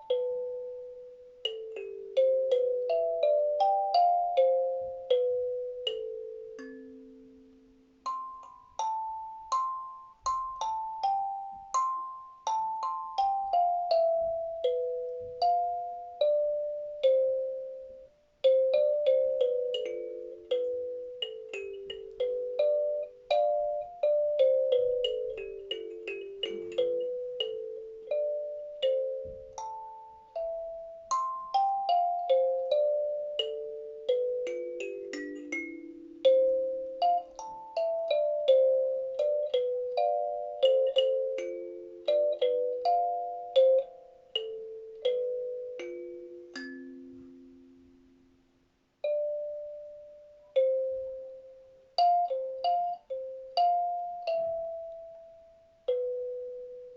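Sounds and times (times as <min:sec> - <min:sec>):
kalimba notes: 0:00.0 - 0:56.9.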